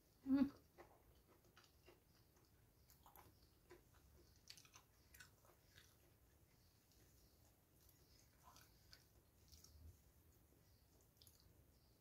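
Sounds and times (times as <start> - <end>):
person chewing: 0.6 - 12.0.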